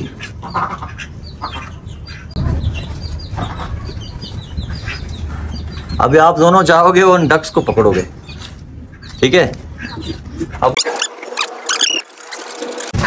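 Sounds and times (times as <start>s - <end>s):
chicks cheeping: 0.0s - 12.0s.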